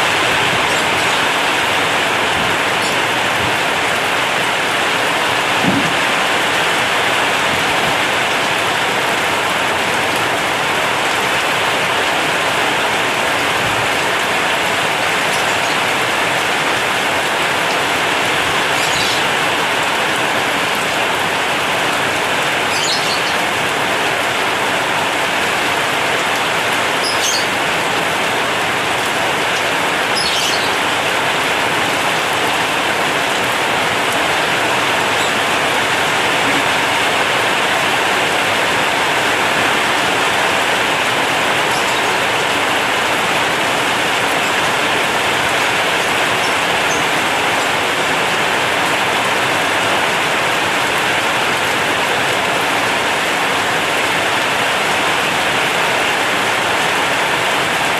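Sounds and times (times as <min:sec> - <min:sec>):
heavy rain on a metal roof: 0:00.0 - 0:57.9.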